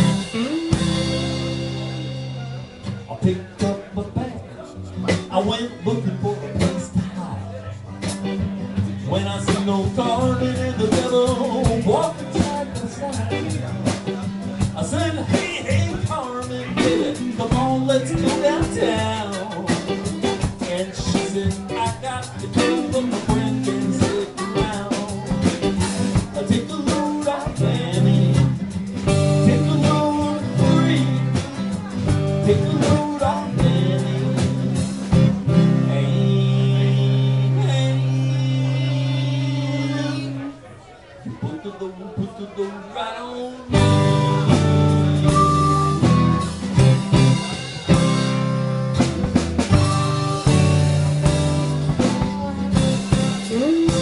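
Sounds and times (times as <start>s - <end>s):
blues band playing: 0.0s - 54.0s.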